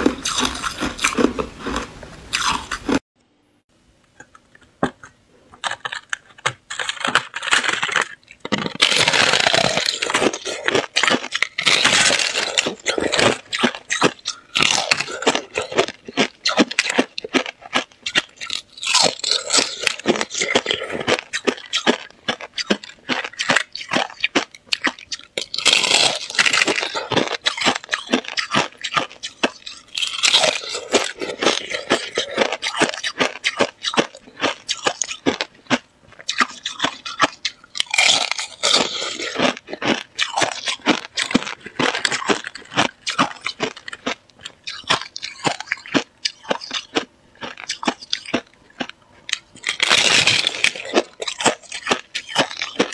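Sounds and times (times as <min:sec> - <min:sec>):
ice being bitten crunching: 0:00.0 - 0:03.0, 0:05.6 - 0:52.9.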